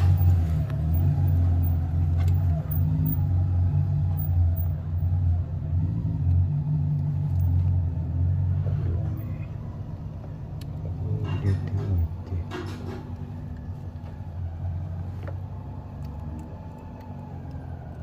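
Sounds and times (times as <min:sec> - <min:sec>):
low engine-like rumble: 0:00.0 - 0:18.0.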